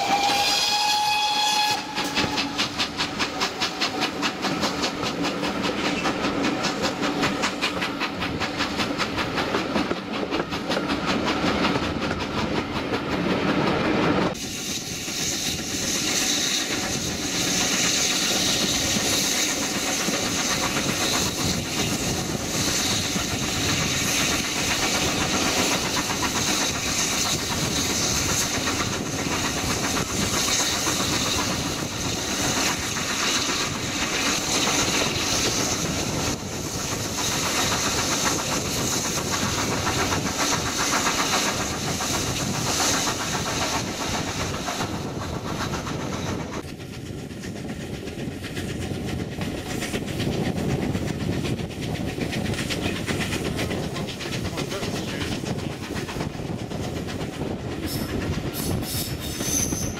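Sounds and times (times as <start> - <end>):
carriages rumbling on rails: 0.0 - 59.9
rushing air: 0.0 - 59.9
steam locomotive hissing exhaust: 0.0 - 59.9.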